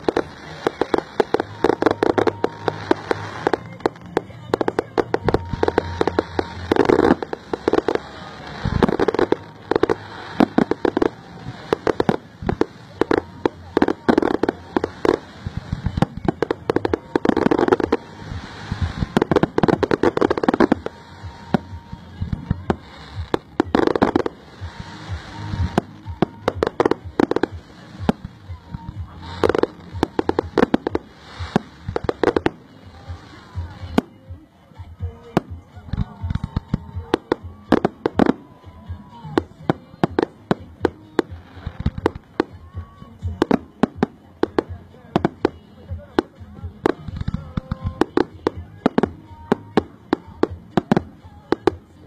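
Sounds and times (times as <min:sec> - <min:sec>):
fireworks bangs and crackle: 0:00.0 - 0:34.1, 0:35.0 - 0:52.0.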